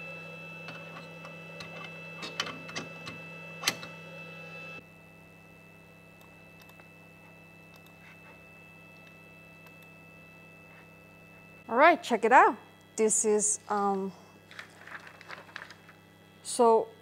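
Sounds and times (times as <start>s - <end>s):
electrical hum with high whine: 0.0s - 17.0s.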